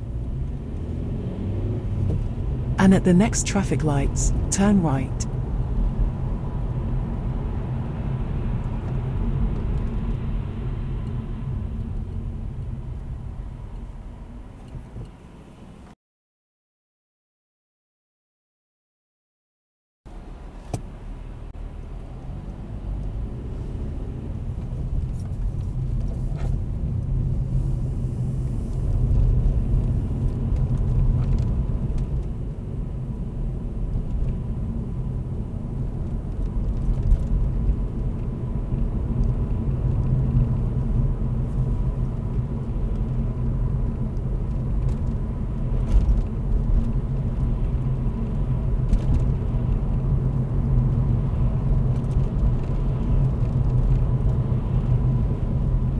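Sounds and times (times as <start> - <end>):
car engine rumble inside cabin: 0.0 - 16.0, 20.1 - 55.9
road rumble: 0.0 - 16.0, 20.1 - 55.9.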